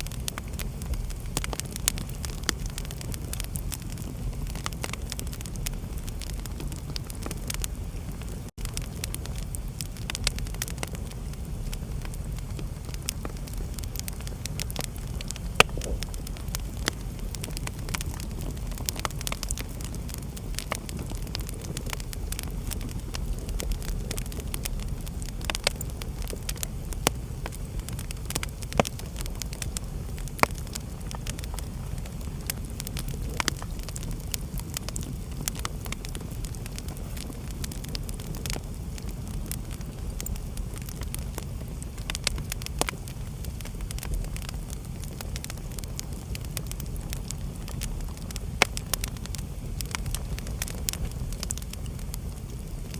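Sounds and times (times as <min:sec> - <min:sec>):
low rumble of burning: 0:00.0 - 0:52.9
wood fire crackling: 0:00.0 - 0:52.9.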